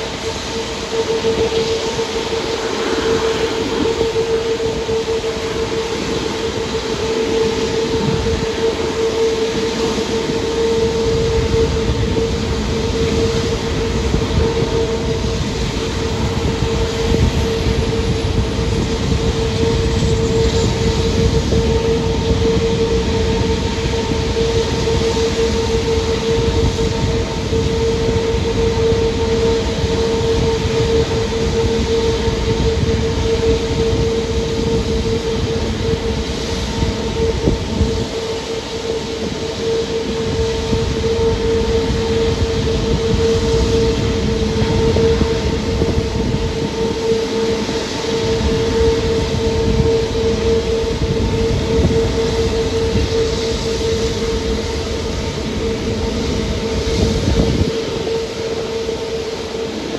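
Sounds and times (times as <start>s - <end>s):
steady whine: 0.0s - 59.9s
train rumbling at speed: 0.0s - 59.9s.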